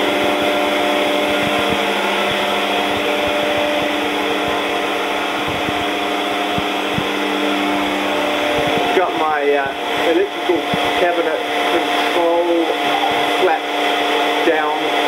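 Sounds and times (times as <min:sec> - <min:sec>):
coolant spraying hiss: 0:00.0 - 0:15.0
milling spindle whine and hum: 0:00.0 - 0:15.0.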